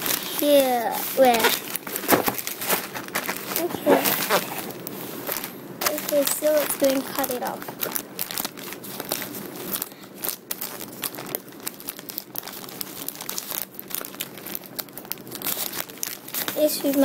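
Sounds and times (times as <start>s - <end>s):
plastic mailer bag crinkling: 0.0s - 17.0s.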